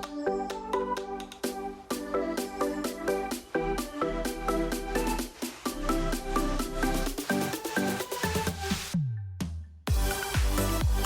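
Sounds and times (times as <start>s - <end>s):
electronic music with synth: 0.0s - 9.1s, 9.9s - 11.0s.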